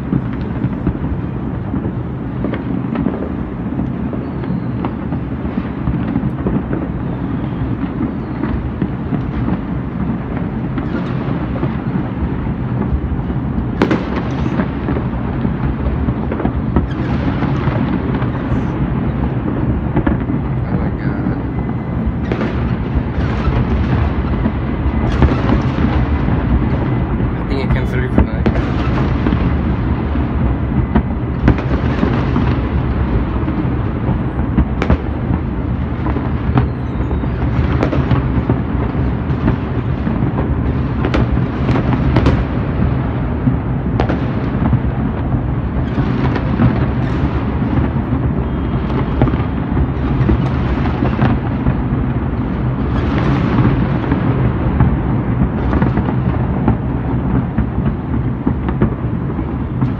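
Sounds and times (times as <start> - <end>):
rumble of firework booms: 0.0 - 59.9
sharp firework bangs: 0.0 - 59.9.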